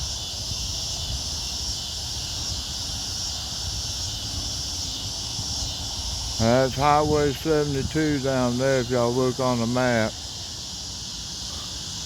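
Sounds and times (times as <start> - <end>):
cricket and insect chorus: 0.0 - 12.0.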